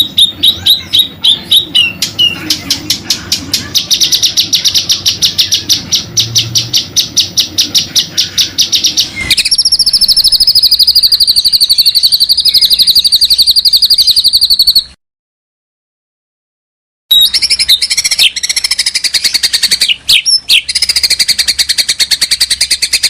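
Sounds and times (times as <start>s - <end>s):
fast high bird trill: 0.0s - 15.0s, 17.1s - 23.0s
songbird singing high sharp notes: 0.0s - 15.0s, 17.1s - 23.0s.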